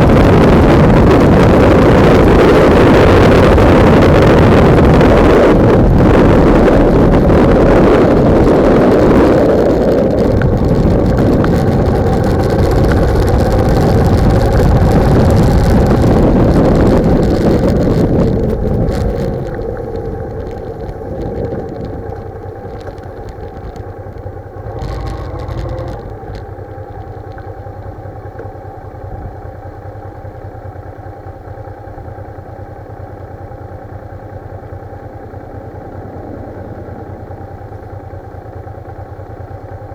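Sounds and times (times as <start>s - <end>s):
wind buffeting microphone: 0.0s - 29.6s, 34.7s - 39.6s
motorcycle engine: 0.0s - 39.9s.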